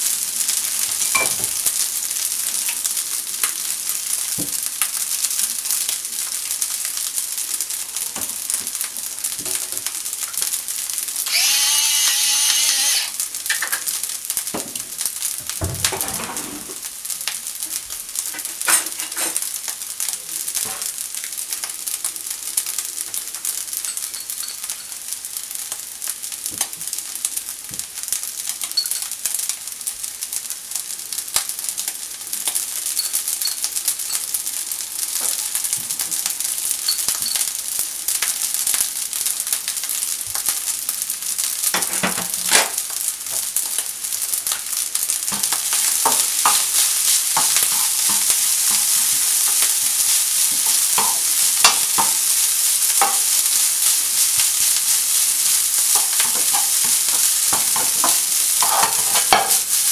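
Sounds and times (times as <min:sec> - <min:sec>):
fried rice sizzling in a pan: 0:00.0 - 0:59.9.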